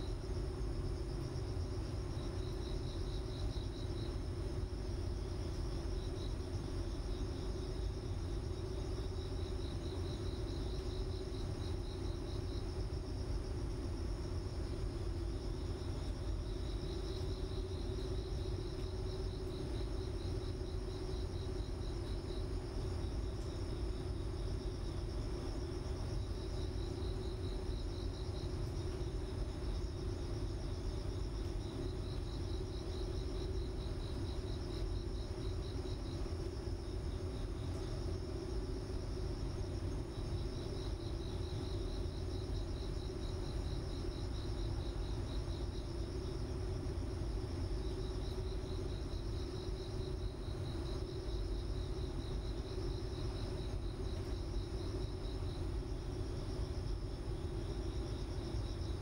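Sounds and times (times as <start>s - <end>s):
high pulsed insect trill: 0.0s - 59.0s
steady low hum: 0.0s - 59.0s.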